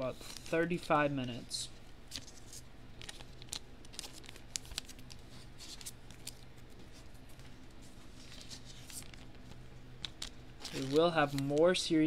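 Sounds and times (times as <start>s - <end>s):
cards rustling in plastic sleeves: 0.0s - 12.0s
low steady hum: 0.0s - 12.0s.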